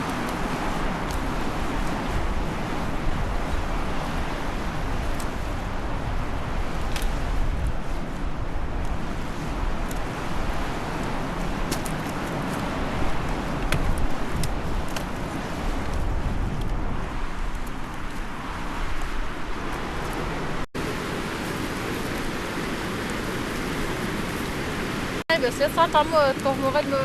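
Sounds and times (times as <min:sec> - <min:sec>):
fast river rushing: 0:00.0 - 0:27.0.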